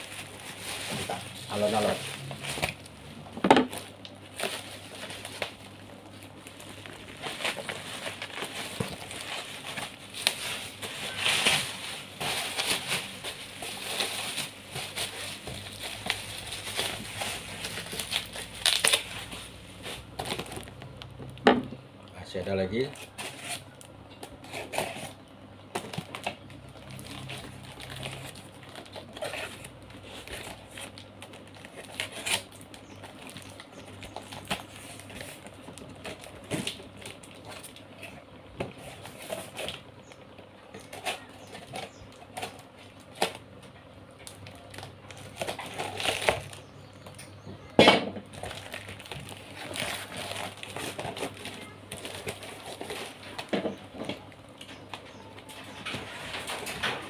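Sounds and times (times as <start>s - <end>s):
cardboard rustling and scraping: 0.0s - 21.0s, 22.8s - 43.6s, 48.2s - 57.0s.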